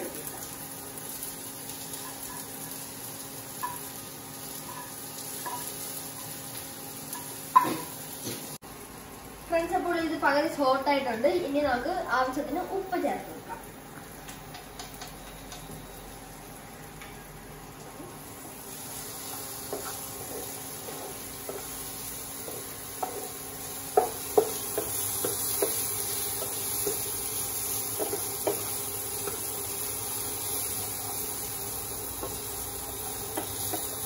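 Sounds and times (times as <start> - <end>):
vegetables sizzling in a frying pan: 0.0 - 34.0.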